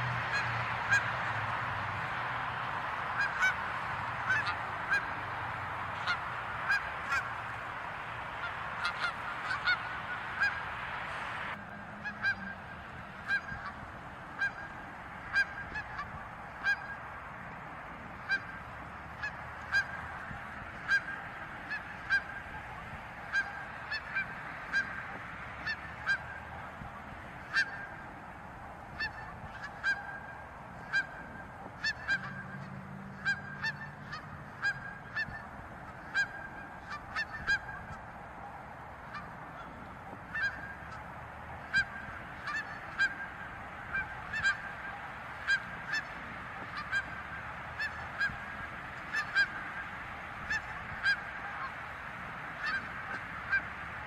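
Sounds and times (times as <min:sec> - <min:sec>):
geese honking: 0:00.0 - 0:54.0.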